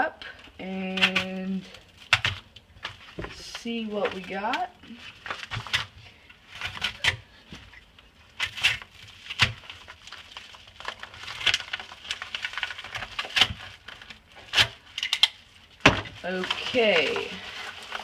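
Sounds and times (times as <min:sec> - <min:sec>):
paper crinkling: 0:00.4 - 0:18.0.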